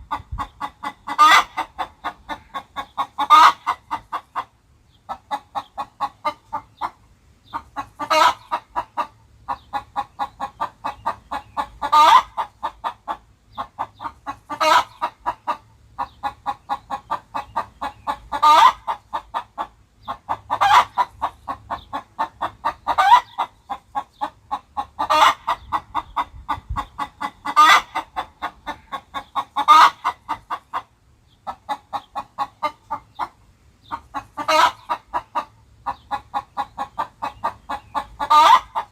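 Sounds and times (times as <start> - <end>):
cartoon chicken clucking: 0.0 - 4.5, 7.6 - 30.9, 31.5 - 38.9
drawn-out chicken squawk: 0.0 - 38.9.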